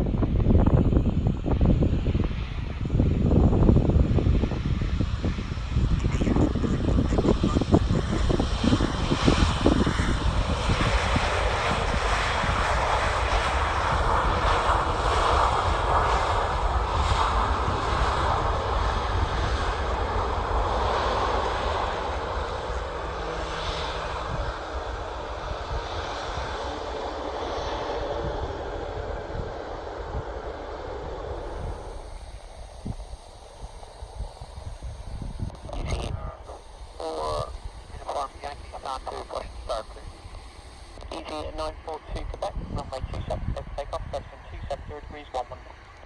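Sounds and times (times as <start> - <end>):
airliner engines passing: 0.0 - 46.0.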